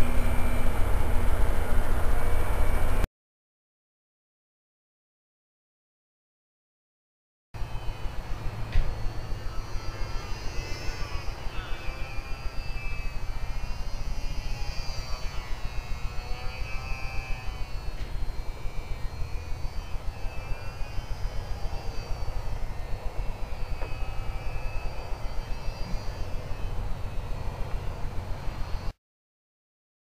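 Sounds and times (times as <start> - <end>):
small electric motor whine: 0.0 - 3.1, 7.6 - 29.0.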